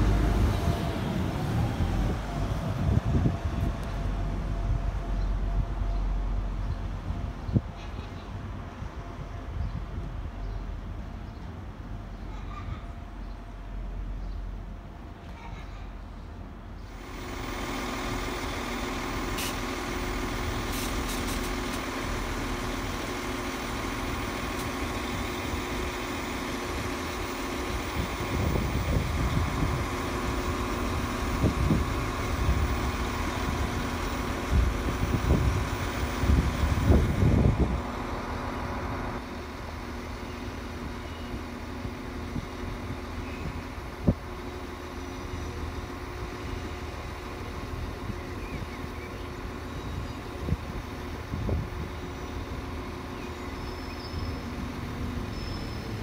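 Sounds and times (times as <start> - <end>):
train engine droning: 0.0 - 15.4, 16.2 - 56.0.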